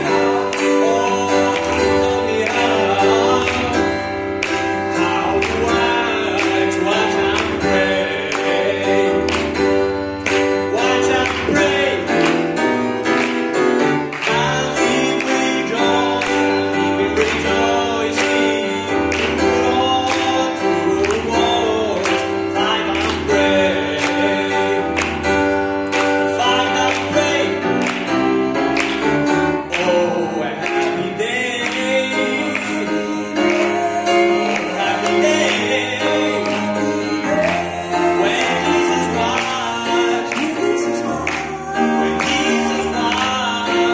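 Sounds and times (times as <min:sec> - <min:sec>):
person singing: 0:00.0 - 0:12.8, 0:14.0 - 0:28.0, 0:29.6 - 0:43.9
grand piano: 0:00.0 - 0:43.9.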